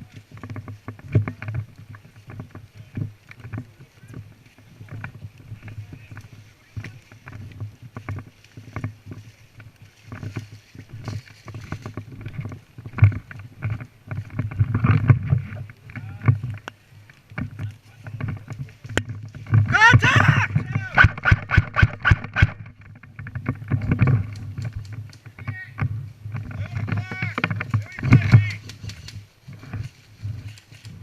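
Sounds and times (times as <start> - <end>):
thumps and rustling of movement: 0.0 - 31.0.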